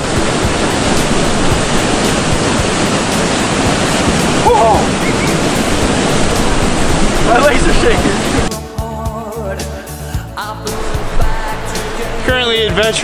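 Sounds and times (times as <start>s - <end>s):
waterfall rushing: 0.0s - 8.5s, 10.6s - 13.0s.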